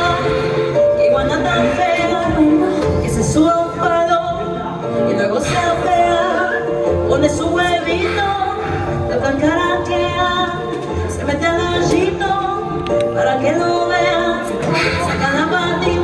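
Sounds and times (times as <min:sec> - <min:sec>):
person singing long sliding notes: 0:00.0 - 0:16.0.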